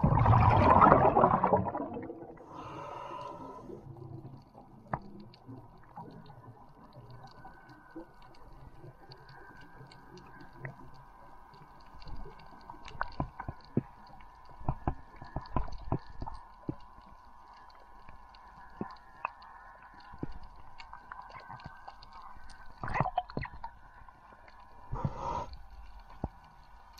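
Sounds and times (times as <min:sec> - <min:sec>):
underwater clicks and crackles: 0:00.0 - 0:26.9.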